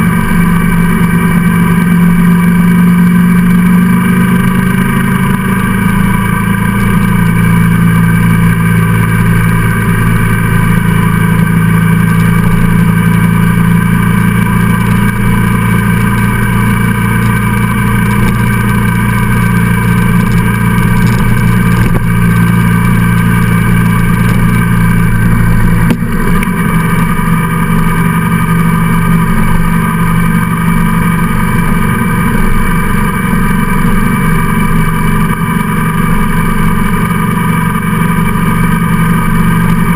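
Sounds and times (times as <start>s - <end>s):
vehicle engine cruising: 0.0s - 39.9s.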